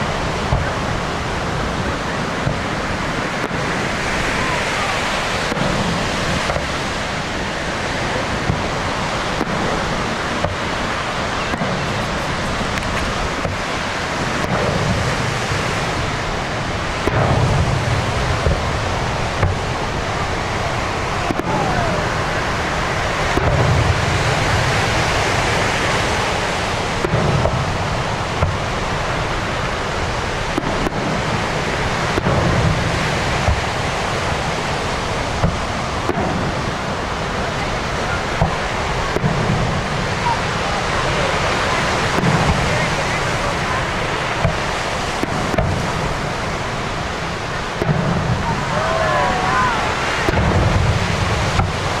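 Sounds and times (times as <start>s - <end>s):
deep firework booms: 0.0s - 52.0s
sharp firework cracks: 0.0s - 52.0s
steady rushing noise: 0.0s - 52.0s.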